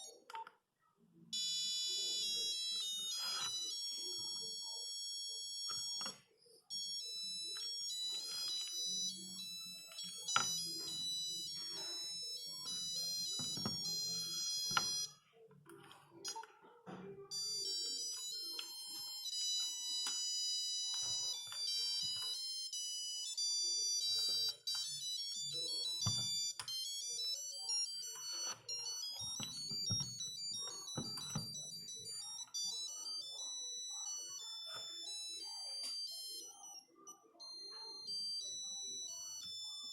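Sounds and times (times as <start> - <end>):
monophonic ringtone beeping melodies: 1.3 - 15.2, 17.2 - 39.9.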